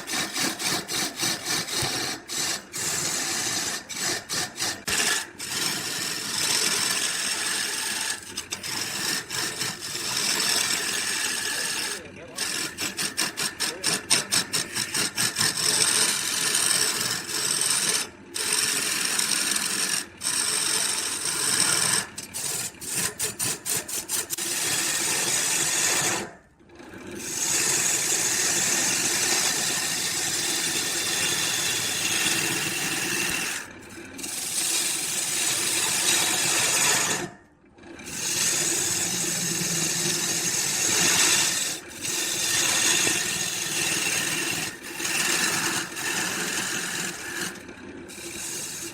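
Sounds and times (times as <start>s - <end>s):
power tool working wood: 0.0s - 48.9s.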